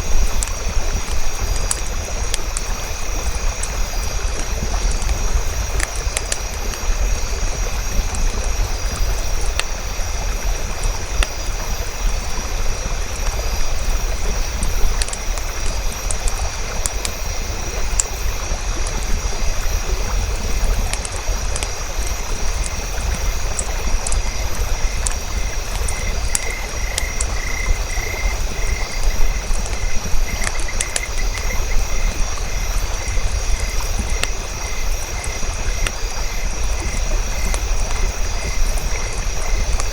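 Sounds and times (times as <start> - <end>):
campfire crackling: 0.0 - 39.9
insects and frogs trilling: 0.0 - 39.9.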